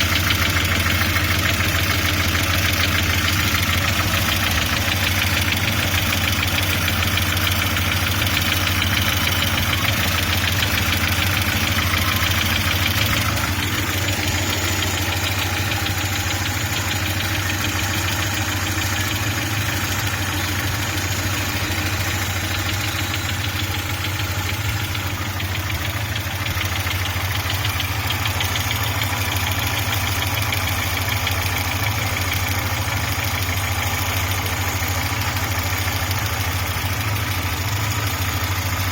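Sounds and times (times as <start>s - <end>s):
car engine idling with knock: 0.0s - 38.9s.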